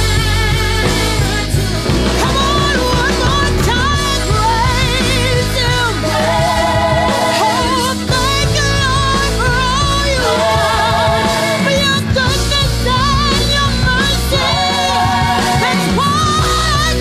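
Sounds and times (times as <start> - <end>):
recorded praise song backing: 0.0 - 17.0
woman singing with vibrato: 0.0 - 17.0.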